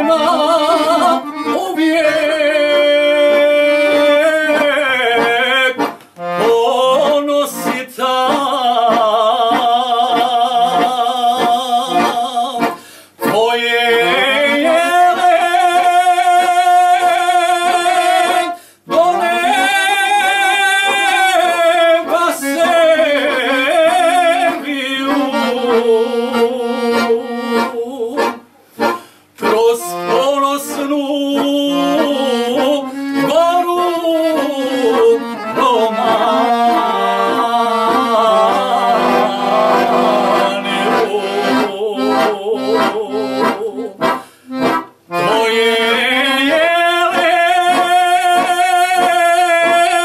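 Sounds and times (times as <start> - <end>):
accordions playing: 0.0 - 50.0
man singing: 0.0 - 50.0.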